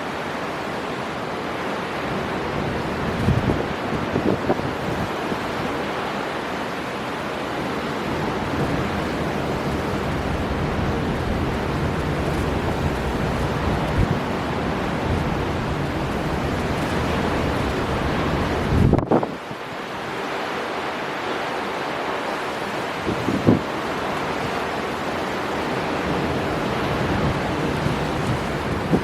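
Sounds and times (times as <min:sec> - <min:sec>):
sea surf breaking: 0:00.0 - 0:29.0
storm wind blowing hard: 0:00.4 - 0:20.2, 0:22.3 - 0:29.0.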